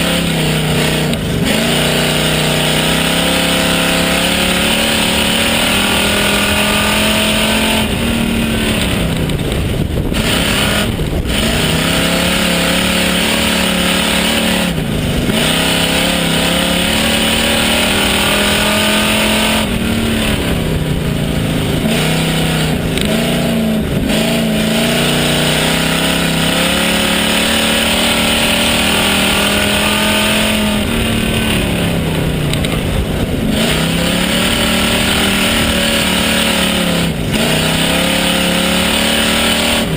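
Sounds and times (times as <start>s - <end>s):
race car engine from inside: 0.0s - 39.9s.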